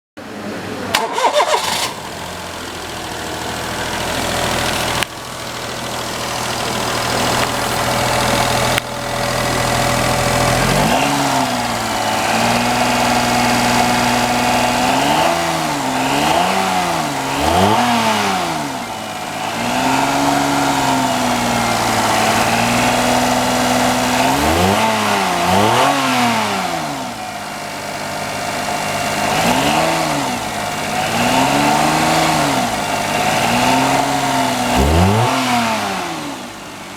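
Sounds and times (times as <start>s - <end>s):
car engine idling: 0.2s - 35.3s
engine revving: 0.9s - 36.9s.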